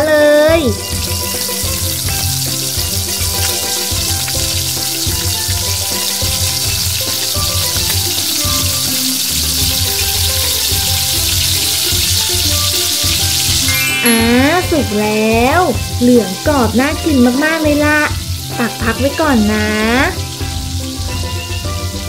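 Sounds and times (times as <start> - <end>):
background music: 0.0 - 22.0
hot oil sizzling: 0.0 - 22.0.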